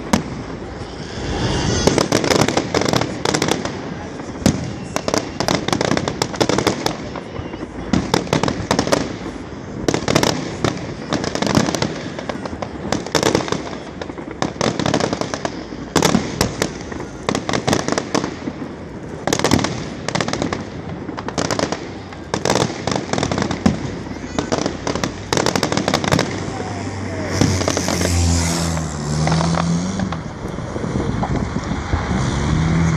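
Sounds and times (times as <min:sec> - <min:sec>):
fireworks booming: 0:00.0 - 0:32.9
fireworks crackling: 0:00.0 - 0:32.9.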